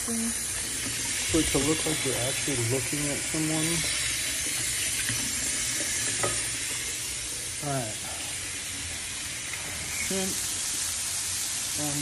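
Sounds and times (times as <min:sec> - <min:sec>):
shrimp sizzling in butter: 0:00.0 - 0:12.0.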